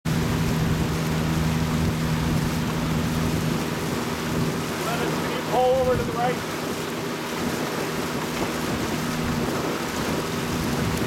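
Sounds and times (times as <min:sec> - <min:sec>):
wind and water rushing: 0:00.0 - 0:11.0
low motor hum: 0:00.1 - 0:11.0
paddle splashes: 0:00.1 - 0:11.0.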